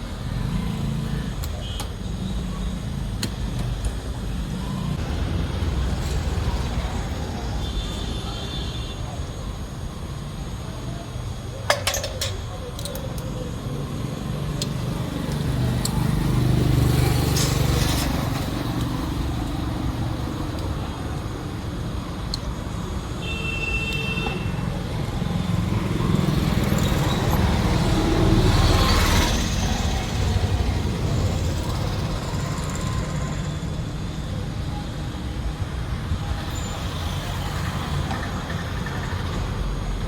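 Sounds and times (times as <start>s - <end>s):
motor vehicles rumbling: 0.0s - 40.0s.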